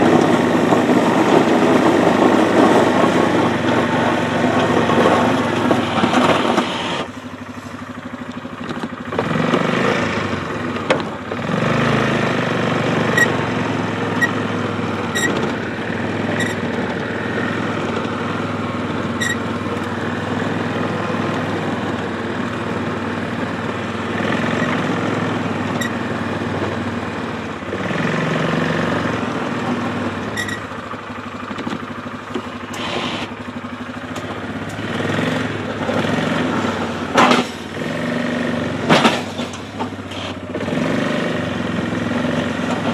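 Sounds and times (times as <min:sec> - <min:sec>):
atv engine running under load: 0:00.0 - 0:42.9.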